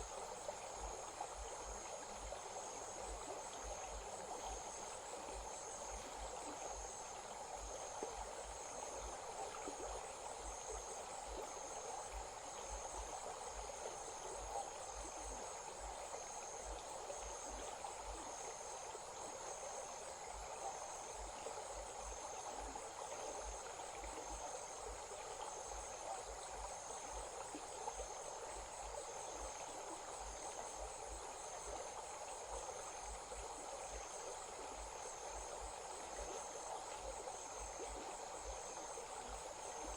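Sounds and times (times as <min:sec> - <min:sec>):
crickets chirping: 0:00.0 - 0:39.9
small stream rushing: 0:00.0 - 0:39.9.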